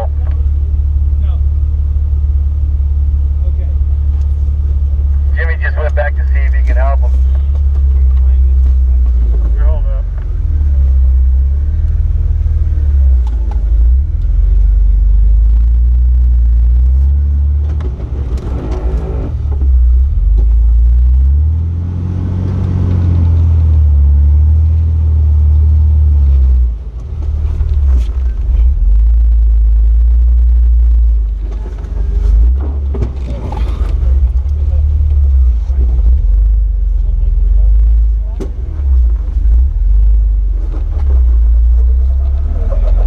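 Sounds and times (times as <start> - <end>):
off-road vehicle engine revving: 0.0 - 43.0.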